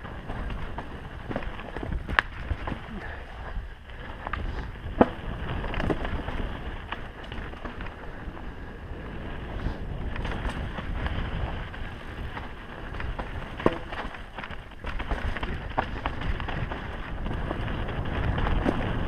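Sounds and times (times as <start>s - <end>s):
bike knocks and rattles: 0.0s - 3.2s, 3.9s - 8.5s, 10.0s - 19.0s
tyres rumbling on dirt: 0.0s - 19.0s
wind on microphone: 0.0s - 19.0s.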